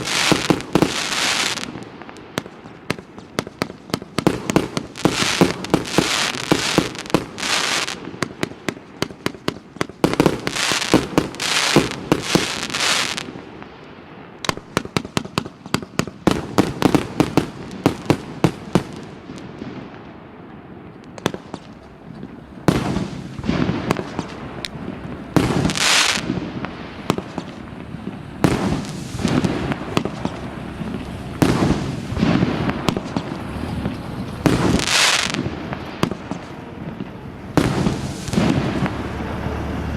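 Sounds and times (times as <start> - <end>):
firework launch shots and bursts: 0.0 - 13.8, 14.4 - 20.0, 21.1 - 39.2.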